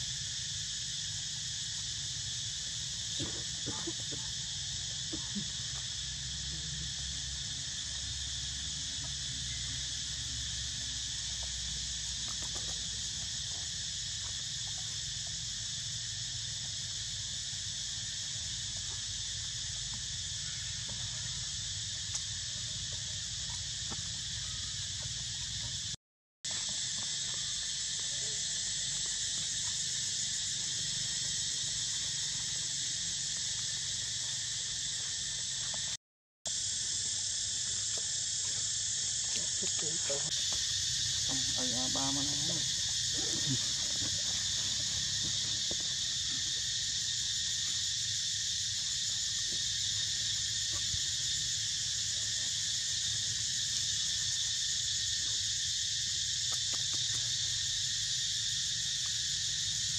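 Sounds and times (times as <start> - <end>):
buzzing insect chorus: 0.0 - 59.9.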